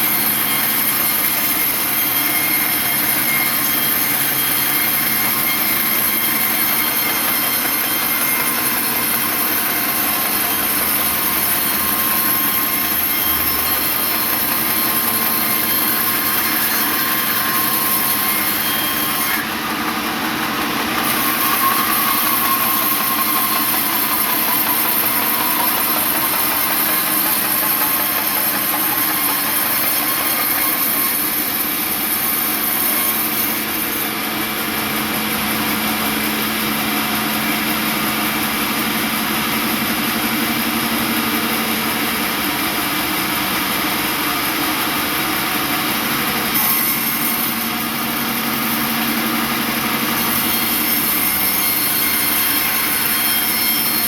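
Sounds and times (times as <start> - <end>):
sawmill saw droning: 0.0 - 54.0.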